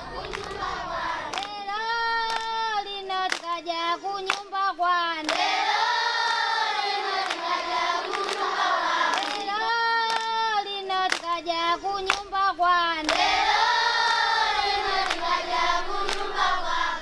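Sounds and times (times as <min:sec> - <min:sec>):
children singing: 0:00.0 - 0:17.0
hand claps: 0:00.2 - 0:00.7, 0:01.3 - 0:16.5.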